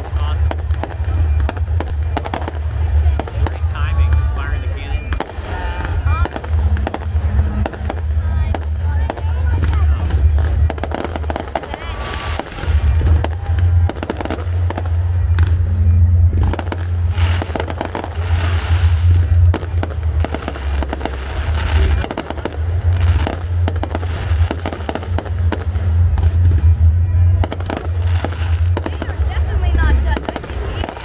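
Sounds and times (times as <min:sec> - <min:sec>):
fireworks bursting: 0:00.0 - 0:31.0
fireworks crackling: 0:00.0 - 0:31.0.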